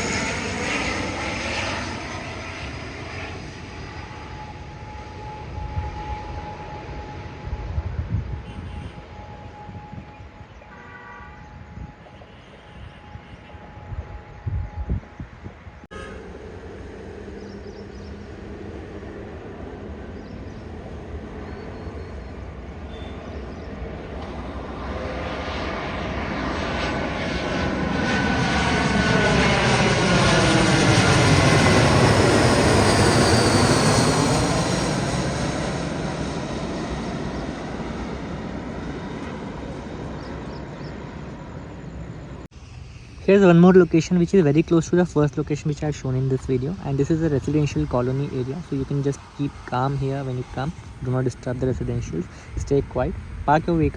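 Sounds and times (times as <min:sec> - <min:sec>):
airliner passing overhead: 0:00.0 - 0:53.9.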